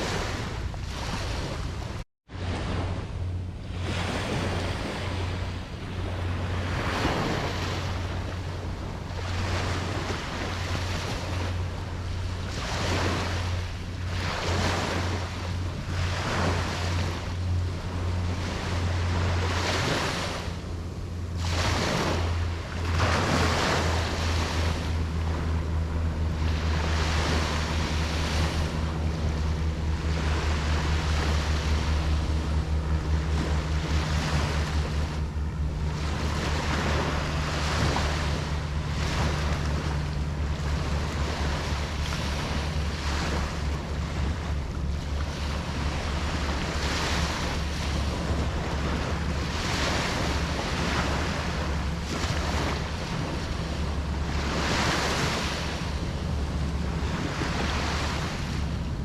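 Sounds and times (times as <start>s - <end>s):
low surf rumble: 0.0s - 59.0s
waves breaking and washing in: 0.0s - 59.0s.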